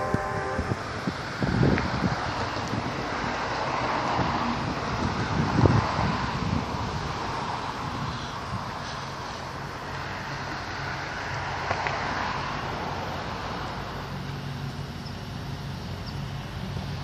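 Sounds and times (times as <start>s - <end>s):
locomotive diesel engine hum: 0.0s - 17.0s
road traffic noise: 0.0s - 17.0s.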